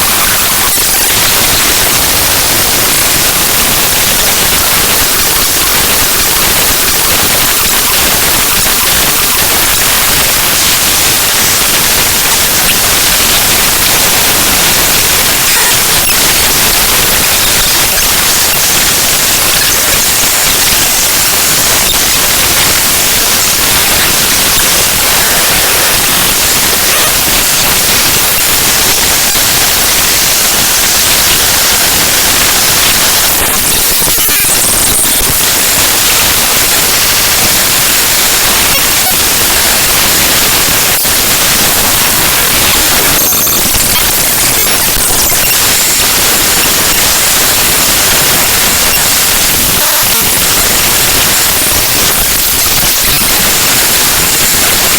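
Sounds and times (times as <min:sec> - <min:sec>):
harsh static: 0:00.0 - 0:54.9.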